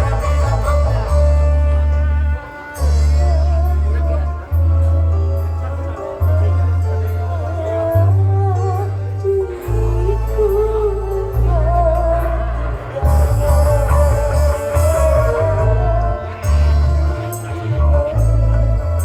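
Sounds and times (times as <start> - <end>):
heavy bass through sound system: 0.0 - 19.0
song with singing voice: 0.0 - 19.0.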